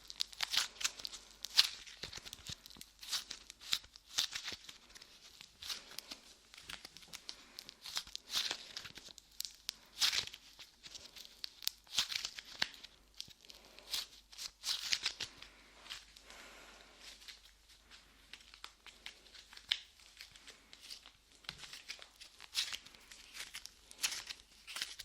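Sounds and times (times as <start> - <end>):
clay squishing and tearing: 0.0 - 25.0.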